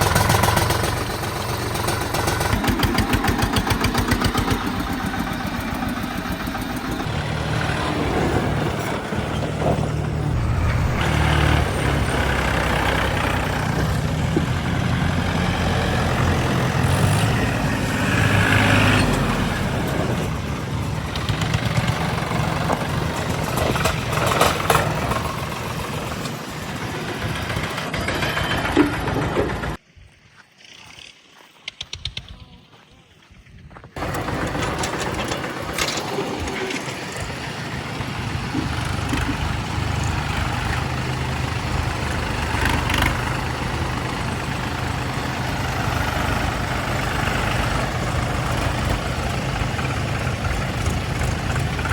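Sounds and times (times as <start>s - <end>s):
diesel tractor engine running: 0.0s - 29.8s, 34.0s - 51.9s.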